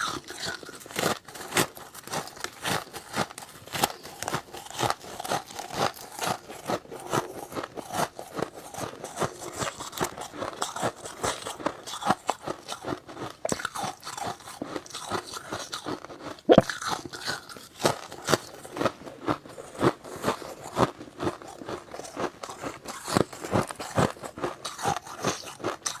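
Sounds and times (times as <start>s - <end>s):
crunchy chewing of frost: 0.0s - 26.0s.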